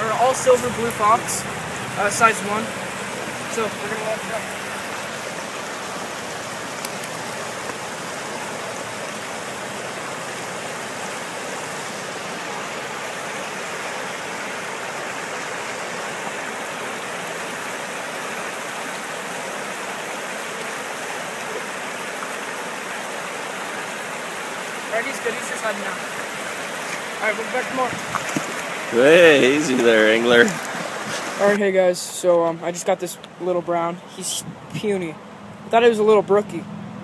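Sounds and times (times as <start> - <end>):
river rushing over rocks: 0.0 - 34.3.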